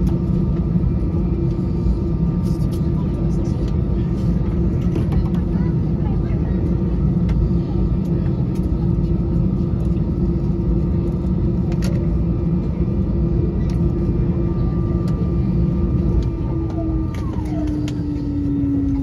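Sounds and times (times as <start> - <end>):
jet engine whine: 0.0 - 19.0
low cabin rumble: 0.0 - 19.0.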